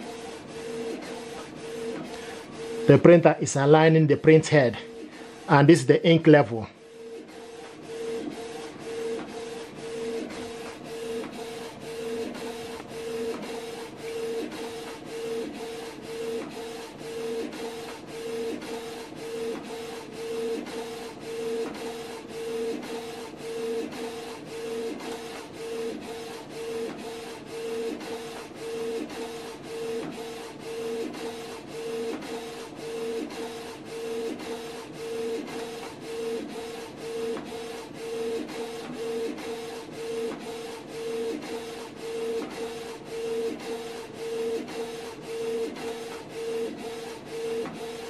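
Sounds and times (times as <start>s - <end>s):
printer motor whine: 0.0s - 48.0s.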